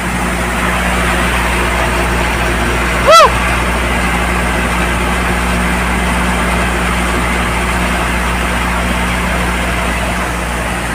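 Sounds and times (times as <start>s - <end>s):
tractor engine hum: 0.0s - 10.9s.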